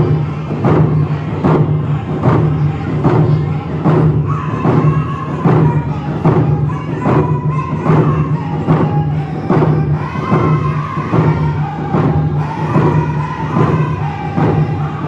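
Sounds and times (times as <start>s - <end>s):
group of voices singing: 0.0s - 15.0s
hand drums steady beat: 0.0s - 15.0s.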